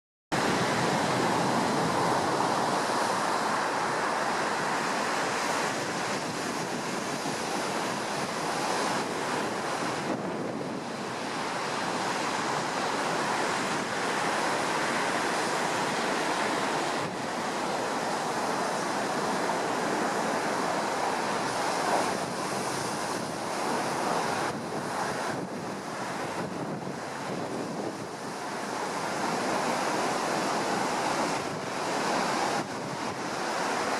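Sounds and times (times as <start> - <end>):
heavy surf breaking on shore: 0.3 - 33.9
wind buffeting microphone: 0.4 - 33.9.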